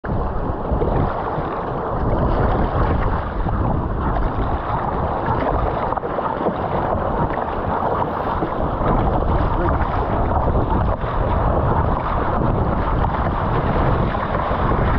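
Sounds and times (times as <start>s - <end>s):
choppy water splashing on hull: 0.0s - 14.9s
wind buffeting microphone: 0.0s - 14.9s.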